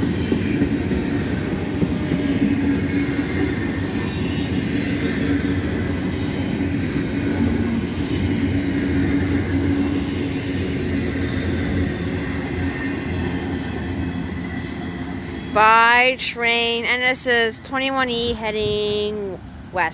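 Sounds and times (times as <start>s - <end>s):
steel wheels rumbling on rails: 0.0s - 19.9s.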